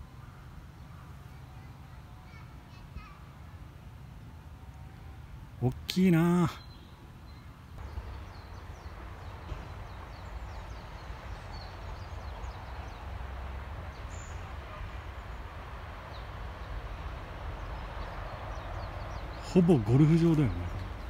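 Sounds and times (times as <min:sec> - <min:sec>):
small birds chirping: 0:00.0 - 0:03.6, 0:05.6 - 0:21.0.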